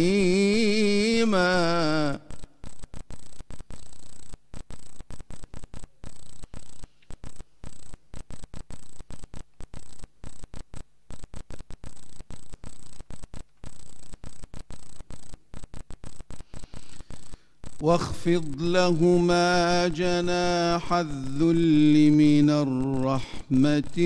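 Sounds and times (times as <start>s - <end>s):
electrical hum and hiss: 0.0s - 24.0s
faint high whine: 0.0s - 24.0s.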